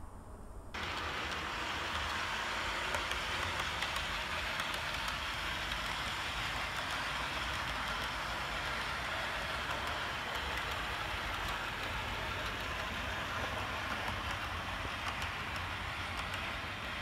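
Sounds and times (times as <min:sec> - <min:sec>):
model train wheels hissing on rails: 0:00.8 - 0:17.0.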